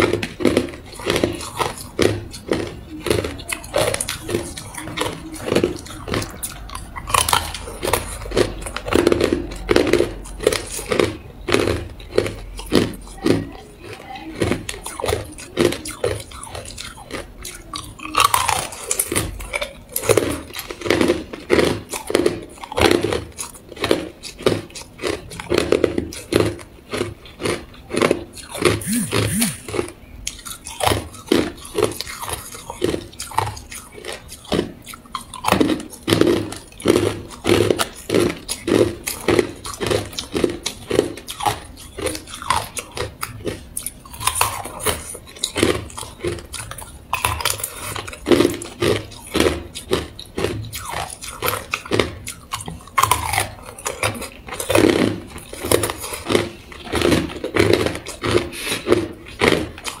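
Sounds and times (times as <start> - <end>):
ice cubes crunched between teeth: 0.0 - 60.0.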